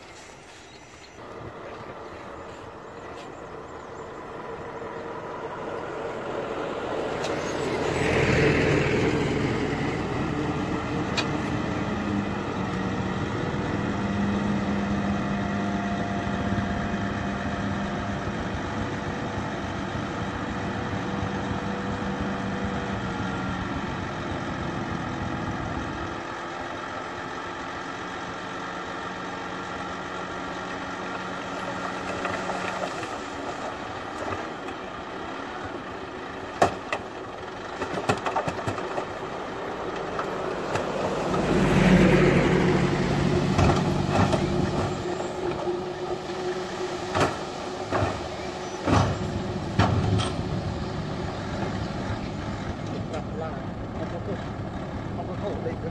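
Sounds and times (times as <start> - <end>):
diesel truck engine running: 0.0 - 55.9.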